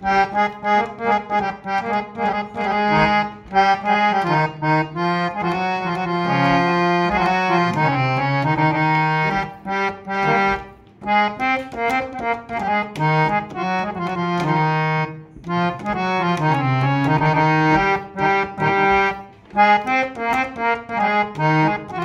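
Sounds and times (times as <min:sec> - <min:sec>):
harmonium playing a melody: 0:00.0 - 0:22.0.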